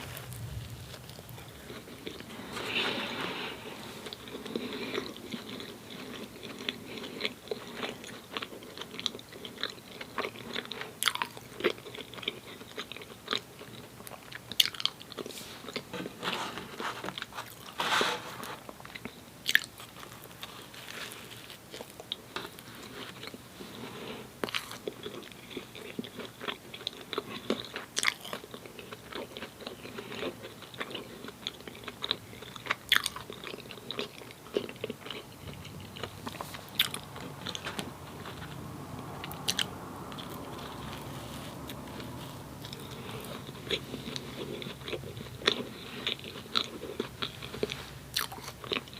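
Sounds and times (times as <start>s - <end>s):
biting and chewing: 0.0s - 17.8s, 18.6s - 48.9s.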